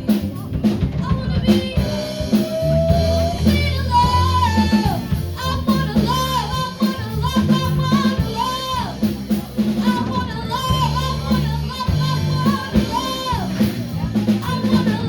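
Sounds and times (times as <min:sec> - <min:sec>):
drum kit beat: 0:00.0 - 0:15.0
live band playing: 0:00.0 - 0:15.0
person singing: 0:00.0 - 0:15.0.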